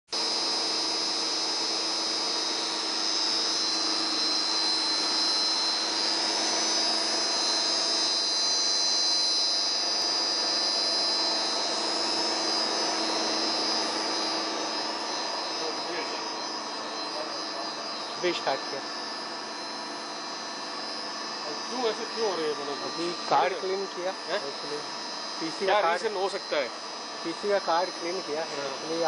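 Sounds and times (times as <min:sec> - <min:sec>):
high gearbox whine: 0:00.1 - 0:29.0
machine hum: 0:00.1 - 0:29.0.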